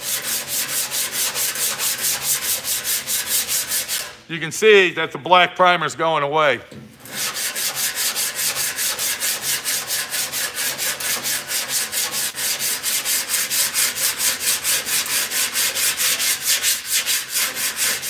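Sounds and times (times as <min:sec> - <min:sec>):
sandpaper scrubbing on metal: 0:00.0 - 0:04.2, 0:07.0 - 0:18.0.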